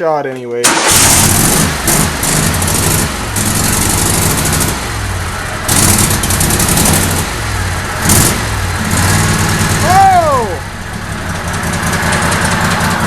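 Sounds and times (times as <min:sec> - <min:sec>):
lawn tractor engine running unevenly: 0:02.2 - 0:13.0.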